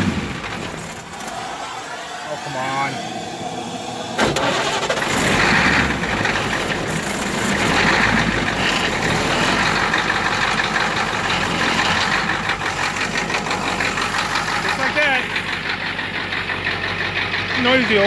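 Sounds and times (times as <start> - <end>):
diesel truck engine rough idle: 0.0 - 18.0.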